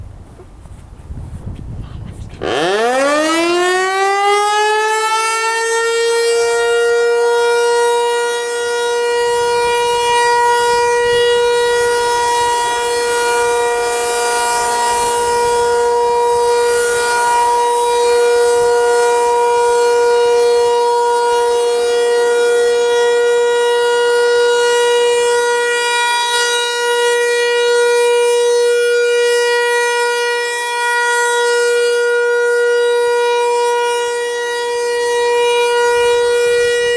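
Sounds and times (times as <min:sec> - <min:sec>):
warning siren: 0:01.7 - 0:36.9.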